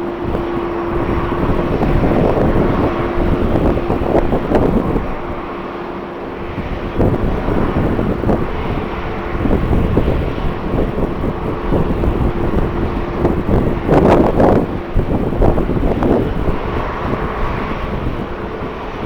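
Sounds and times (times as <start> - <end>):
jet engines: 0.0 - 19.0
wind buffeting microphone: 0.0 - 19.0.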